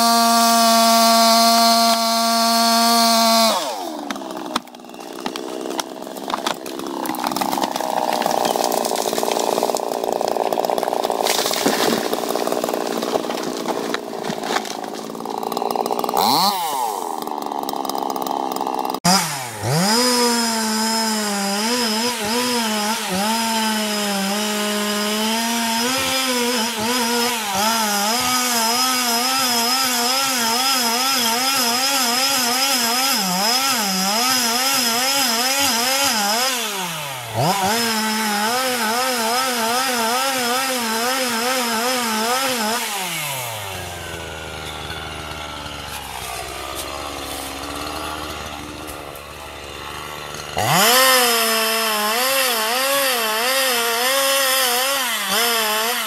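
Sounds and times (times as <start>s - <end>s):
chainsaw cutting tree trunk: 0.0s - 56.0s.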